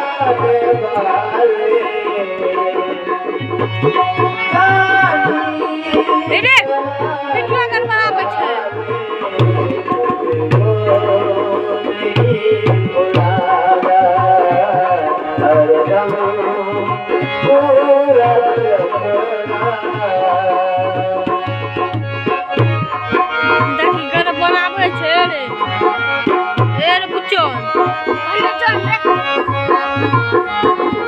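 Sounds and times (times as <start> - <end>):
tabla rhythm: 0.0 - 31.0.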